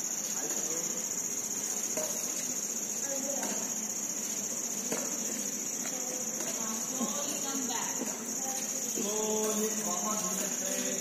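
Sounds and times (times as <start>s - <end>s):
crickets chirring: 0.0s - 11.0s
faint distant voices: 0.3s - 11.0s.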